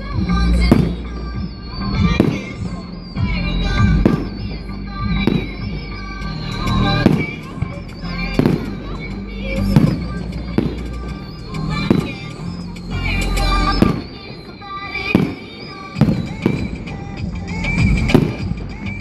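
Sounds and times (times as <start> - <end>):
music: 0.0 - 19.0
fireworks shells bursting: 0.2 - 19.0.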